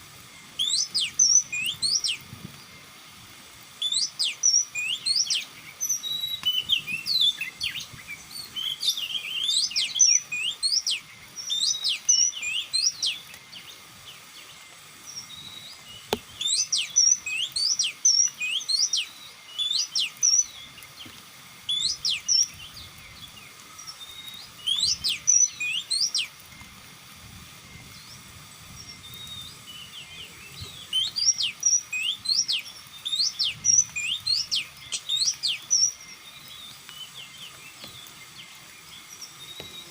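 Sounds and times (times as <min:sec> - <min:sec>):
bird singing whistled notes: 0:00.4 - 0:02.8, 0:03.7 - 0:26.7, 0:27.6 - 0:39.9.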